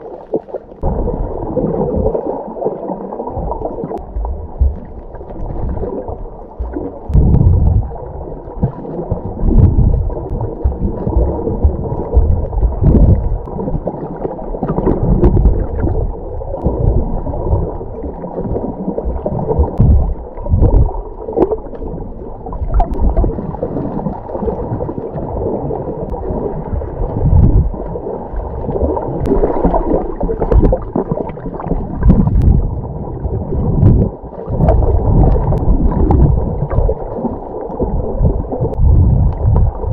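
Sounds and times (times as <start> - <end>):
faint underwater clicks: 0.0 - 39.9
underwater surging and sloshing: 0.0 - 39.9.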